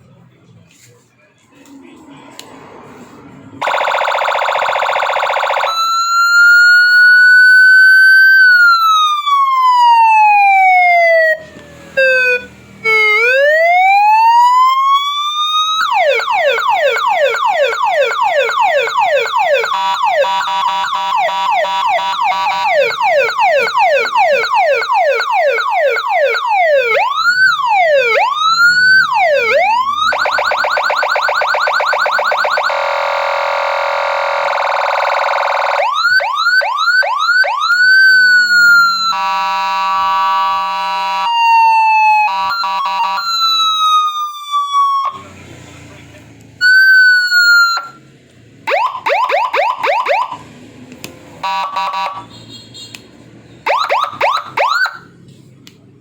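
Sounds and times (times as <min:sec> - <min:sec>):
electronic vehicle siren: 0:03.6 - 0:45.4, 0:46.6 - 0:48.0, 0:48.6 - 0:50.6, 0:51.4 - 0:52.3, 0:53.6 - 0:55.2.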